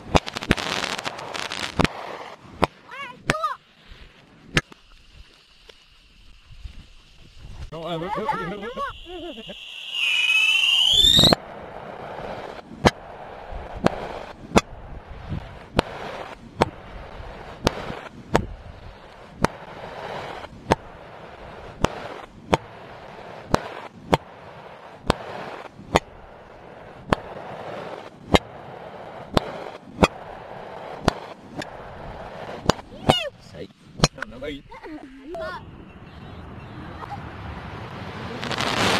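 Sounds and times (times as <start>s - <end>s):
fireworks banging: 0.0s - 4.9s, 7.7s - 34.6s, 36.0s - 38.9s
fireworks crackling hiss: 0.0s - 35.6s, 36.8s - 38.9s.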